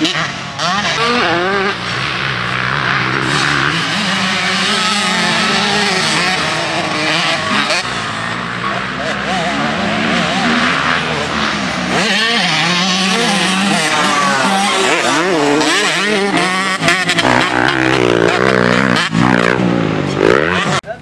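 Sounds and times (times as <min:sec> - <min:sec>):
dirt bikes revving: 0:00.0 - 0:21.0.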